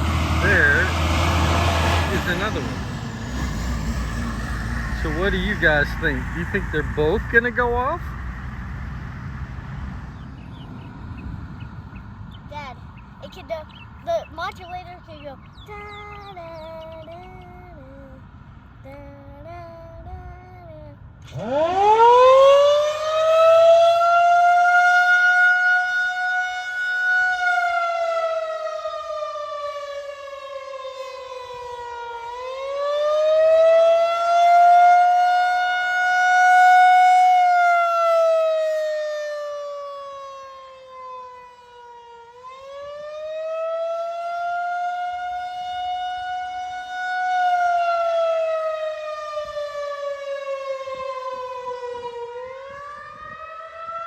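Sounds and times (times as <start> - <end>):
tornado siren wailing: 0.0 - 13.4, 14.0 - 54.0.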